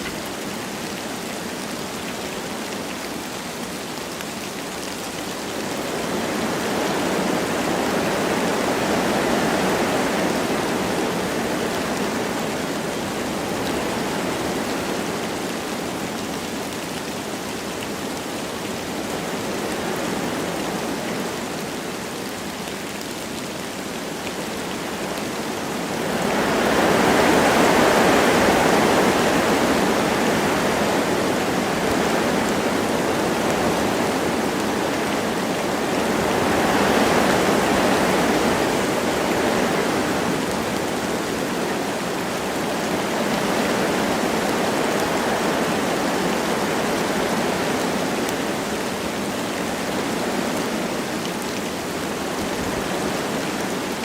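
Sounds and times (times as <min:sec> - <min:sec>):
light rain falling: 0:00.0 - 0:54.0
wind gusting through trees: 0:00.0 - 0:54.0.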